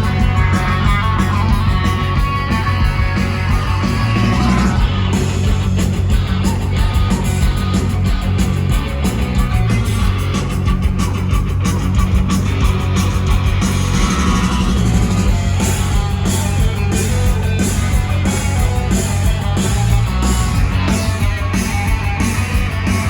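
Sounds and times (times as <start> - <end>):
rock band playing: 0.0 - 23.0.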